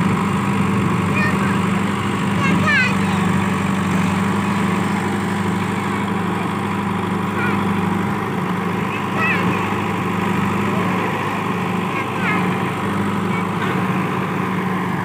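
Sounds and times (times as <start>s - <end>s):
backhoe digging soil: 0.0s - 15.0s
diesel engine droning: 0.0s - 15.0s.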